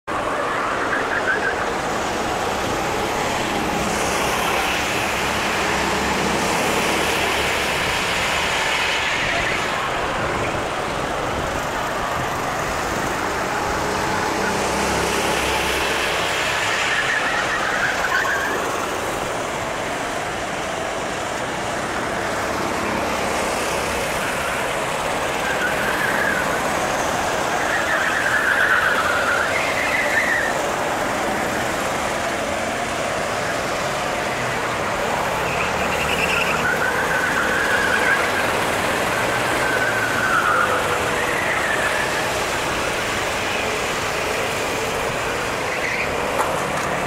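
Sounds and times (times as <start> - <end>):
kart engines buzzing: 0.1 - 47.0.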